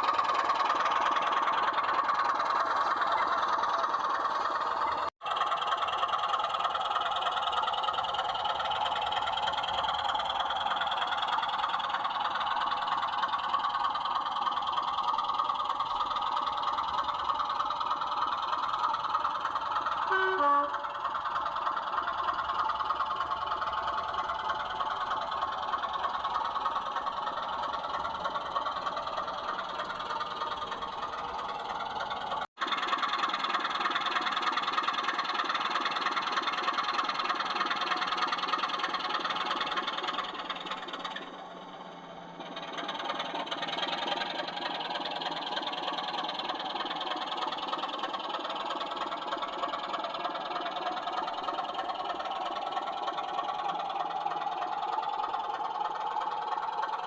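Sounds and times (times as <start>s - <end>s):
model train running on track: 0.0s - 57.0s.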